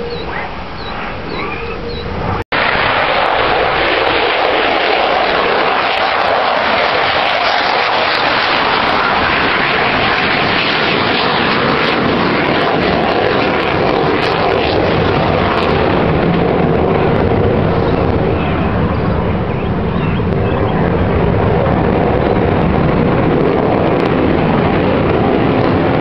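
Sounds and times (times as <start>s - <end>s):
fighter jet engines roaring: 0.0s - 26.0s.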